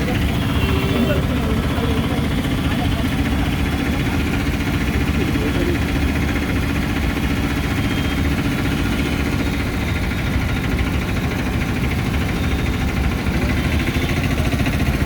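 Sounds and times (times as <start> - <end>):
vehicle engines idling in traffic: 0.0 - 15.0.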